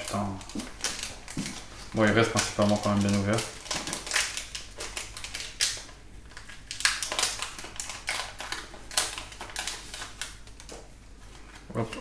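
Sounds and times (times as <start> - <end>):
foil wrapper tearing and crinkling: 0.0 - 11.6.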